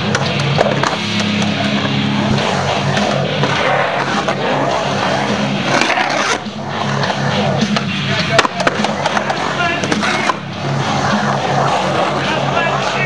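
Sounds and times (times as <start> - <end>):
skateboard scraping on coping: 0.0 - 13.0
skateboard wheels rolling on concrete: 0.0 - 13.0.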